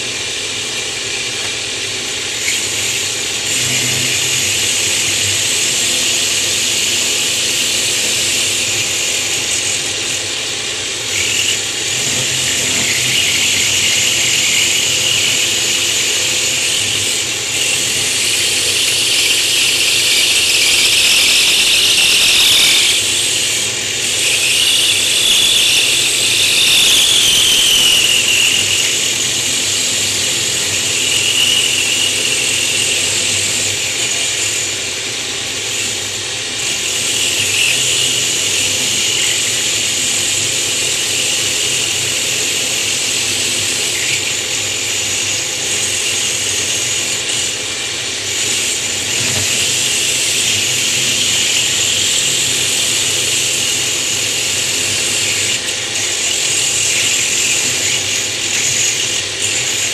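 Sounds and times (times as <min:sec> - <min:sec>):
power tool grinding stone: 0:00.0 - 0:59.9.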